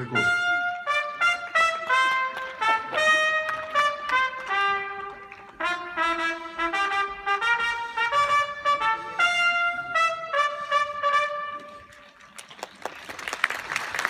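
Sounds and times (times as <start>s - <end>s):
brass band playing a march: 0.0s - 12.2s.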